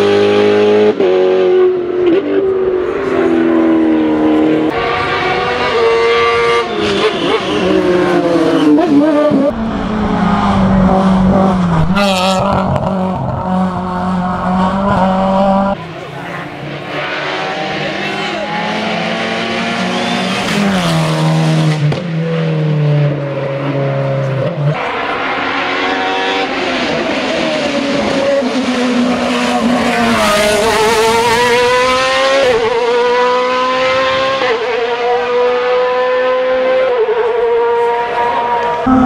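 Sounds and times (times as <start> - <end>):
sports car engine at high revs: 0.0 - 39.0.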